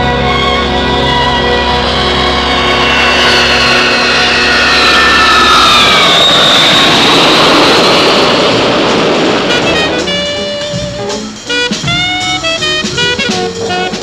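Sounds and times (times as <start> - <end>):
jet airliner engines whining: 0.0 - 14.0
rushing jet noise: 0.0 - 14.0.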